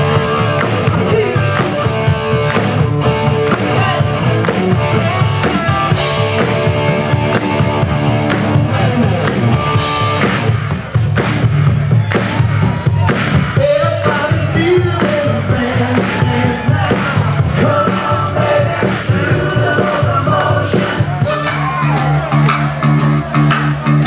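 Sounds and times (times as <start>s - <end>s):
live rock band playing: 0.0s - 24.0s
steady drum beat: 0.0s - 24.0s.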